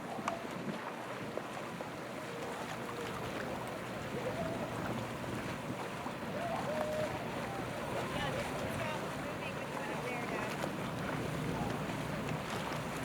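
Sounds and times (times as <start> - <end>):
boat motor running: 0.0 - 13.0
wind on microphone: 0.0 - 13.0.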